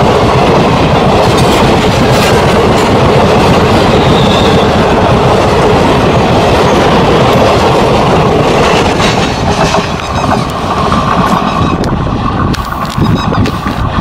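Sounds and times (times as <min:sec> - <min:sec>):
train wheels clattering over joints: 0:01.1 - 0:13.9.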